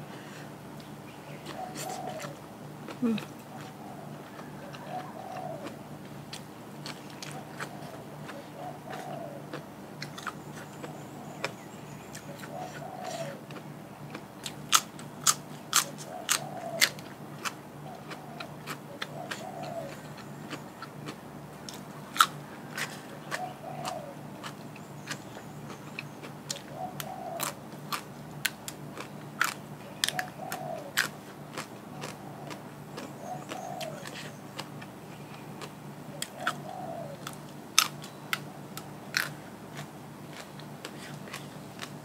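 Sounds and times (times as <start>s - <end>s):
low steady hum: 0.0s - 42.0s
person chewing crisp food: 0.8s - 42.0s.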